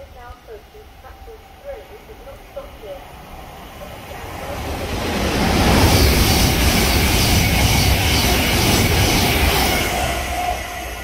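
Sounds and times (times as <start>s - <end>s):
train wheels rumbling on rail: 0.1s - 11.0s.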